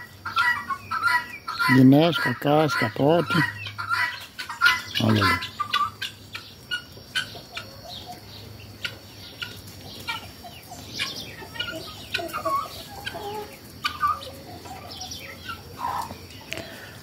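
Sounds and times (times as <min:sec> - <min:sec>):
fowl clucking: 0:00.0 - 0:16.9.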